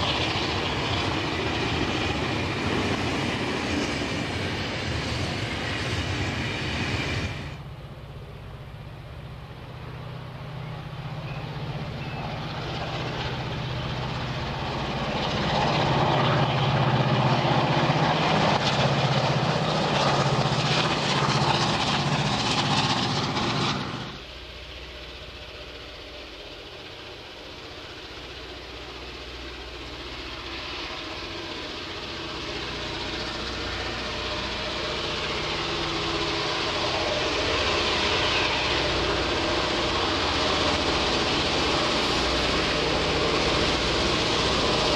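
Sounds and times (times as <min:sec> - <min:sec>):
diesel locomotive approaching: 0:00.0 - 0:44.9
diesel locomotive passing: 0:00.0 - 0:44.9.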